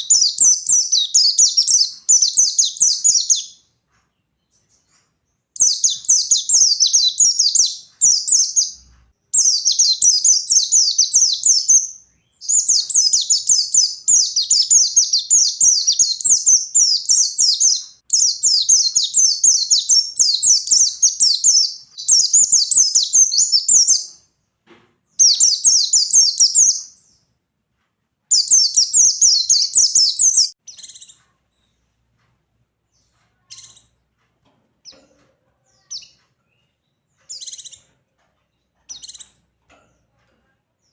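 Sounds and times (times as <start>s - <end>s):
bird twittering song: 0.0s - 24.3s, 25.1s - 27.3s, 28.3s - 31.8s, 32.9s - 34.0s, 35.8s - 38.0s, 38.6s - 39.4s.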